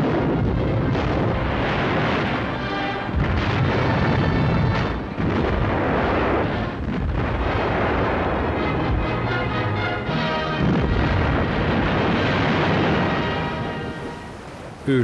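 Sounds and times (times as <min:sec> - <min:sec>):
music: 0:00.0 - 0:14.4
depth charges exploding: 0:00.0 - 0:14.8.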